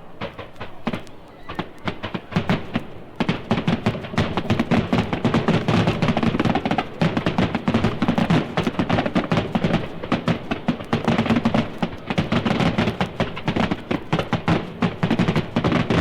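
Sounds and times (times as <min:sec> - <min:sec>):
rapid irregular cracks and clatter: 0:00.0 - 0:16.0.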